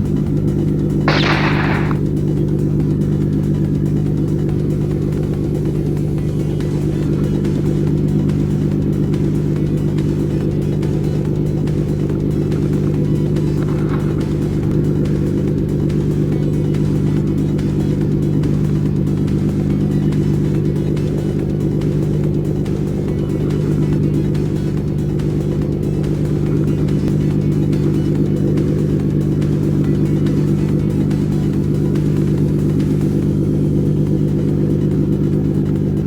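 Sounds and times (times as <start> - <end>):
engine droning steadily: 0.0 - 36.0.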